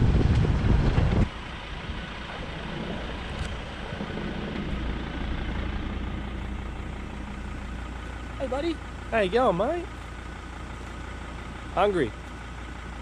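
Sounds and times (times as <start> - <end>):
engine idling hum: 0.0 - 13.0
wind and road noise: 0.0 - 13.0.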